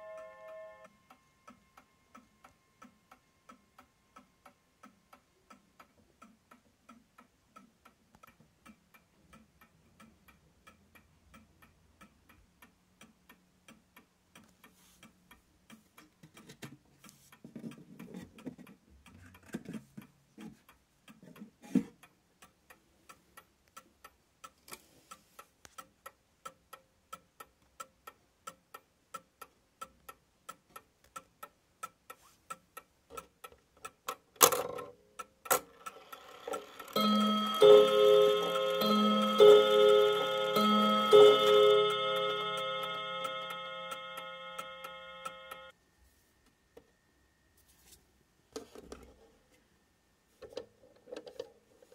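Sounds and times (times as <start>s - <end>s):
clock ticking: 0.0s - 45.7s.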